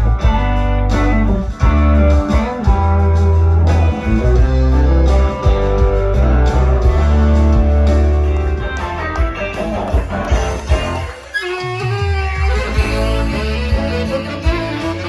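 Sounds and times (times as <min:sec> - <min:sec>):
deep held bass notes: 0:00.0 - 0:15.0
electric guitar: 0:00.0 - 0:15.0.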